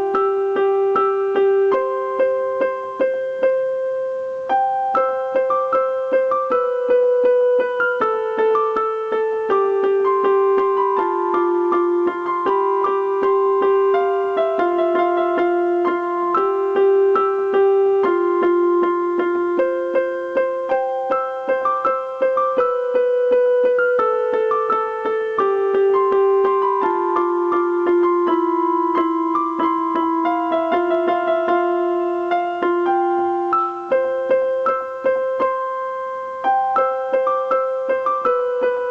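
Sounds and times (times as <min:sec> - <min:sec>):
slow gentle piano piece: 0:00.0 - 0:38.9.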